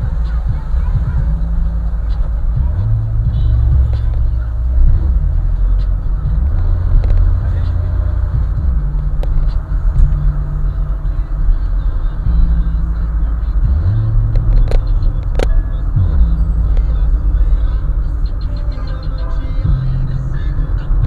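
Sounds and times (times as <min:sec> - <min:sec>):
bass-heavy music from subwoofer: 0:00.0 - 0:21.0
car engine rumble: 0:00.0 - 0:21.0.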